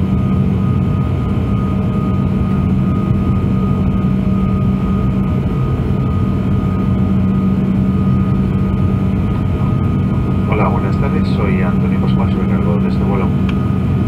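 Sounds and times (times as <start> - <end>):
faint steady whines: 0.0 - 14.0
jet engine drone in cabin: 0.0 - 14.0.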